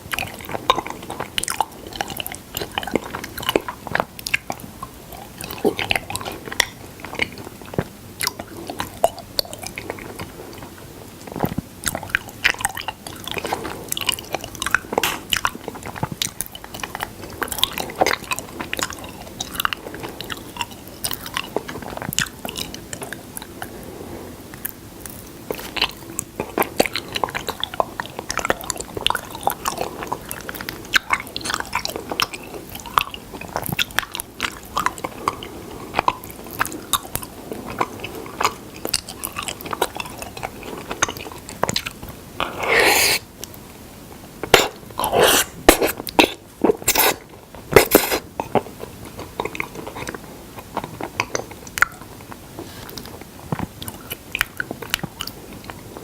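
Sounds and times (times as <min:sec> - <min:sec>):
wet sticky chewing: 0:00.1 - 0:23.5, 0:24.6 - 0:43.7, 0:44.4 - 0:56.0.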